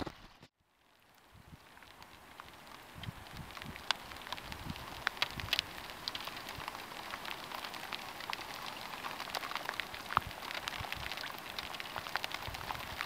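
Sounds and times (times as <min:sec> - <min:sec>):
rain falling on river surface: 0:00.6 - 0:13.0.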